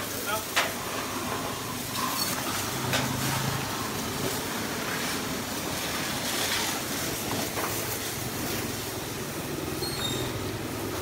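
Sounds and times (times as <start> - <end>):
hose water spraying: 0.0 - 11.0.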